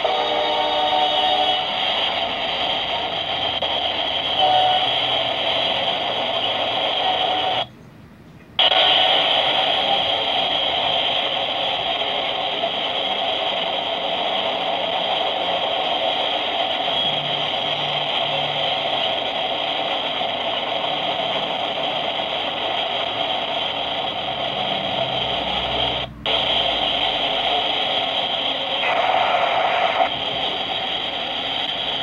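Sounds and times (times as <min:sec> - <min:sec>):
steel wheels rolling on rail: 0:00.0 - 0:07.7, 0:08.5 - 0:32.0.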